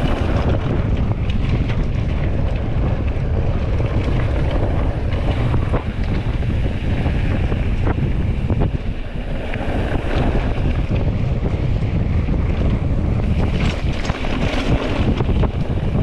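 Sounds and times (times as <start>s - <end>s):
steady rushing noise: 0.0s - 16.0s
wind buffeting microphone: 0.0s - 16.0s.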